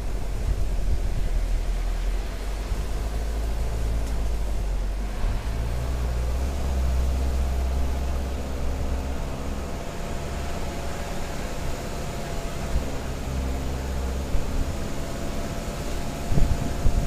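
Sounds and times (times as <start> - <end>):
car engine under load: 0.0 - 17.0.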